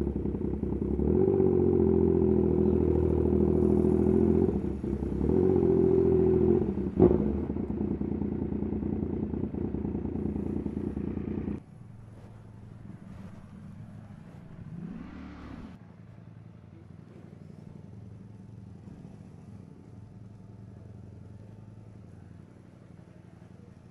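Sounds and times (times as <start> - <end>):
motorcycle engine running: 0.0 - 23.9
quiet low engine hum: 0.0 - 23.9.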